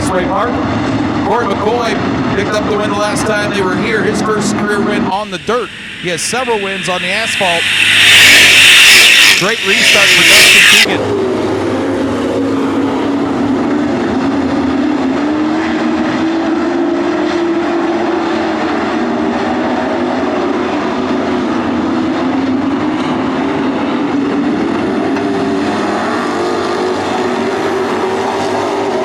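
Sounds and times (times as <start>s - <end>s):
racing truck engines: 0.0s - 29.0s.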